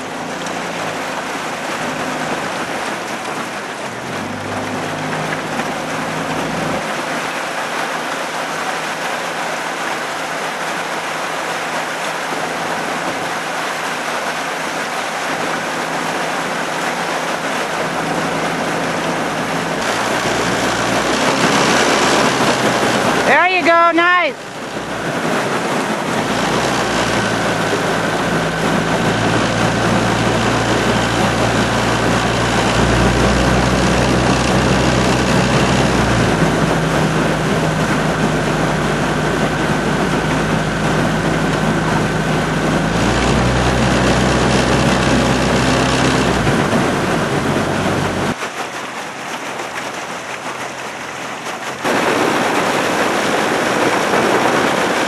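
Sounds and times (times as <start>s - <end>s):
outboard motor running: 0.0s - 55.0s
wind and water hiss: 0.0s - 55.0s.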